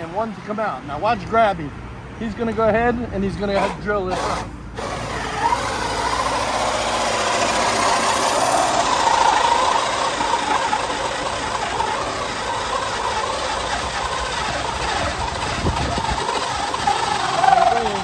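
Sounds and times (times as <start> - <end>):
power drill boring: 3.5 - 18.0.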